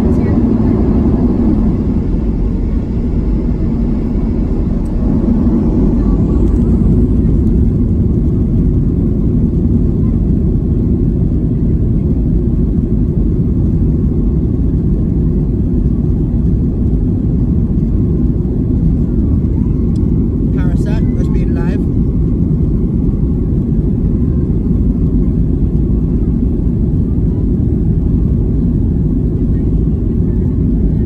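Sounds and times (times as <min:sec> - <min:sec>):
jet engine rumble in cabin: 0:00.0 - 0:31.0.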